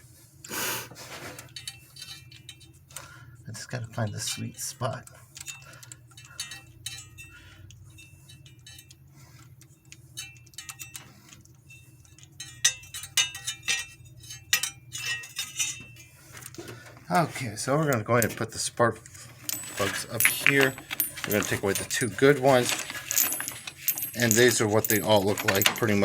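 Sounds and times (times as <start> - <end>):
steady low hum: 1.3 - 26.0.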